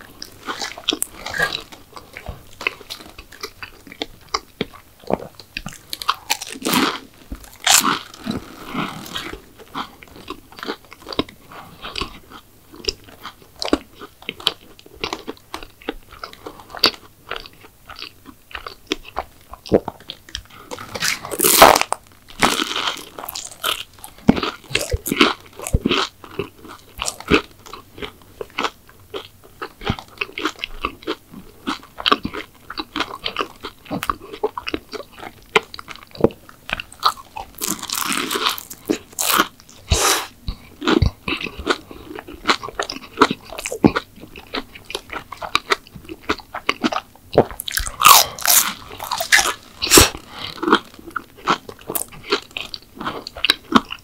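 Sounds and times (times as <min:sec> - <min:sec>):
crunchy bites and chewing: 0:00.0 - 0:54.0.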